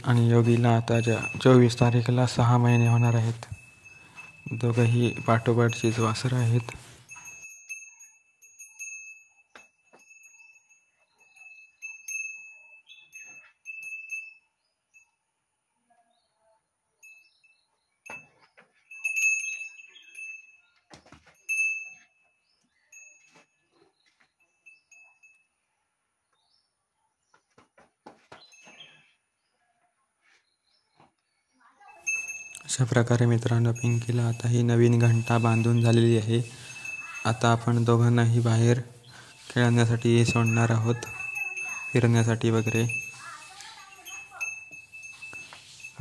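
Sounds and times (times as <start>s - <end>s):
cattle bell jingling: 0.0s - 15.1s, 17.0s - 25.6s, 28.2s - 29.2s, 31.8s - 46.0s.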